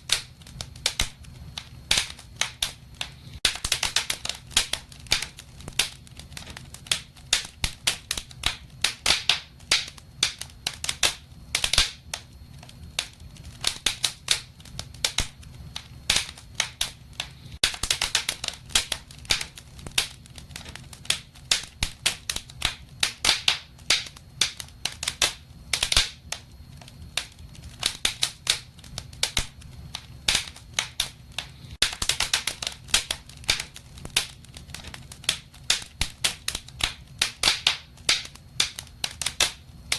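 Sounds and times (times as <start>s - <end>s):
sharp pops of fire: 0.0s - 39.9s
wood fire crackling: 0.0s - 39.9s.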